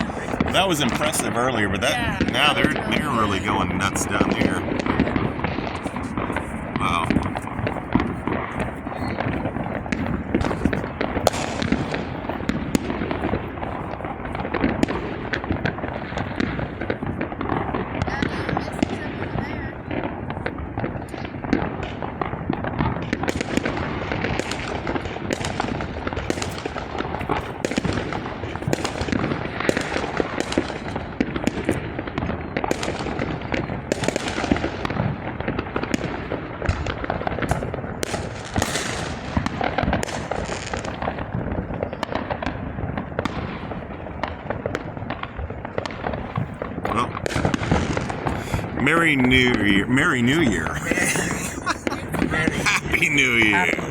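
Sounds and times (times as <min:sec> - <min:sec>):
fireworks banging and crackling: 0:00.0 - 0:53.9.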